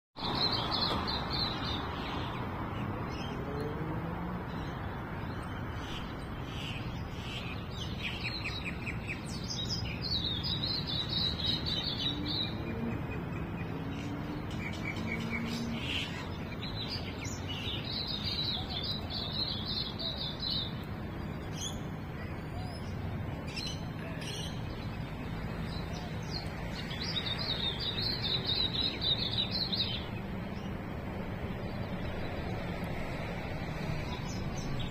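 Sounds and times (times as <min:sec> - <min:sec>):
birds chirping and singing: 0:00.2 - 0:30.8.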